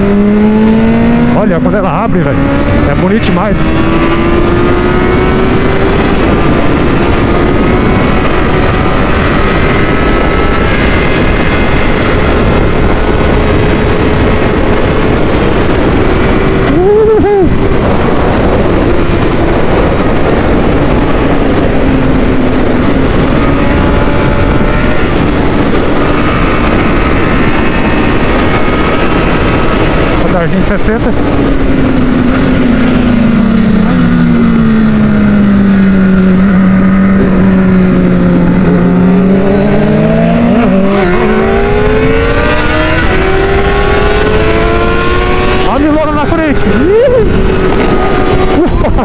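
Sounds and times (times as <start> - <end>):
motorcycle engine revving: 0.0 - 49.0
wind rush: 0.0 - 49.0.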